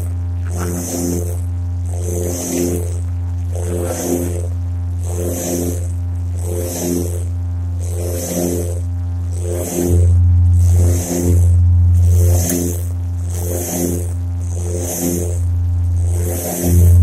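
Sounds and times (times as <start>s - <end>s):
aircraft engine drone in cockpit: 0.0s - 17.0s.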